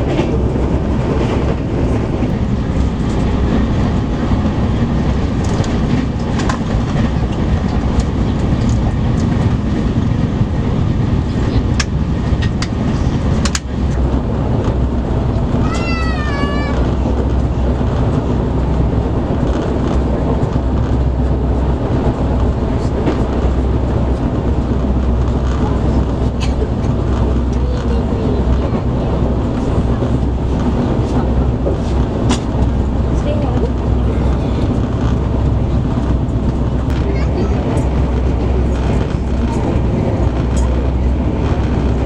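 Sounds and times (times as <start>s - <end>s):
train rumbling and rattling: 0.0s - 42.0s.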